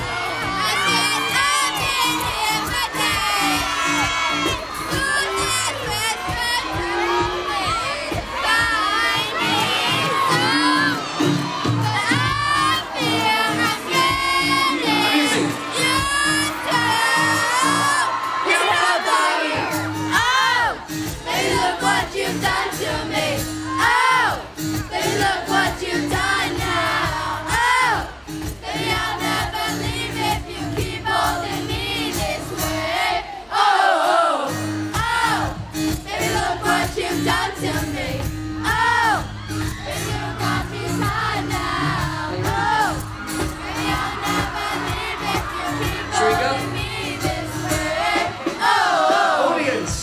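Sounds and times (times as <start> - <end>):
music over loudspeakers: 0.0 - 33.5, 34.4 - 50.0
crowd screaming and cheering: 0.0 - 50.0.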